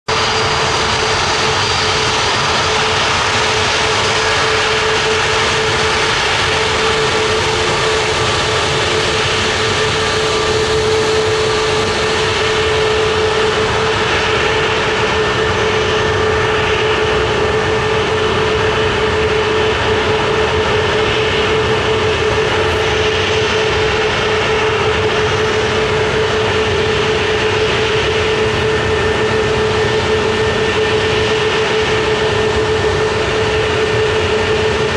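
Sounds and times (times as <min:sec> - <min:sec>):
constant engine whine: 0:00.0 - 0:34.9
jet engines idling: 0:00.1 - 0:34.9.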